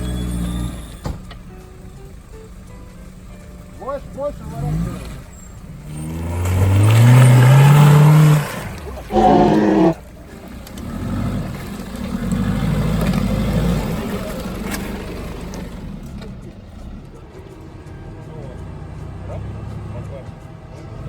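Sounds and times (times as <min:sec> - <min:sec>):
off-road vehicle engine revving: 0:00.0 - 0:01.0, 0:03.8 - 0:21.0.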